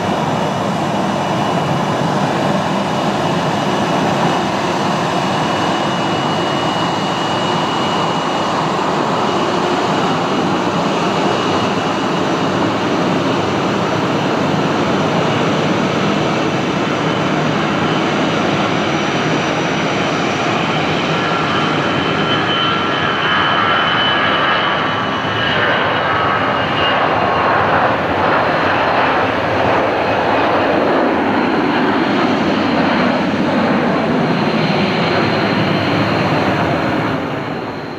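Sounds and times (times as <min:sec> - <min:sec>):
high jet engine whine: 0:00.0 - 0:37.9
jet engines roaring: 0:00.0 - 0:37.9.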